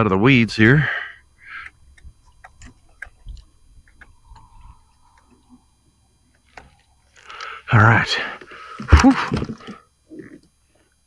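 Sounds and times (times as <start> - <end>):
faint wavering hum: 0.0 - 11.0.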